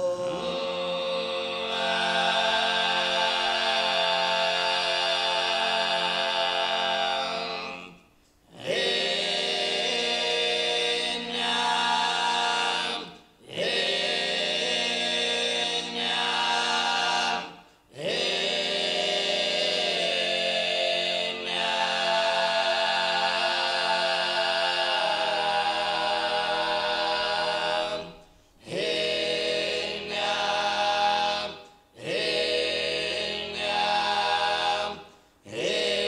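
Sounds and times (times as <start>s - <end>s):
men singing in close harmony: 0.0s - 36.0s.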